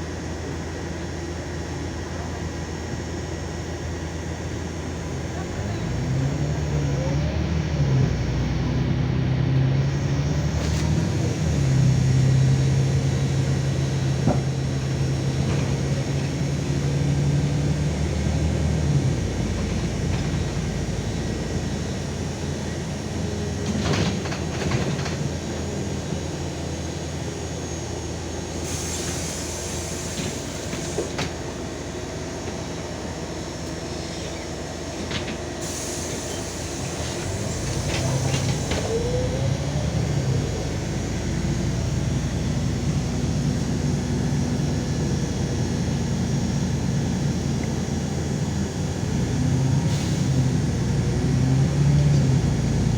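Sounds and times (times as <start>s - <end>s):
diesel bus engine drone: 0.0s - 52.9s
road and body rattle: 4.2s - 52.9s.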